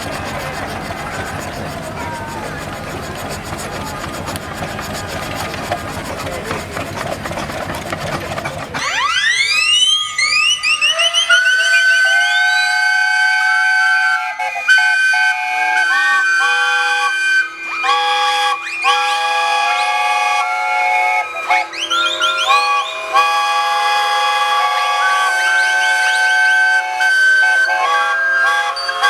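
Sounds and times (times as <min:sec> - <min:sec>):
steam whistles blowing: 0:00.0 - 0:29.0.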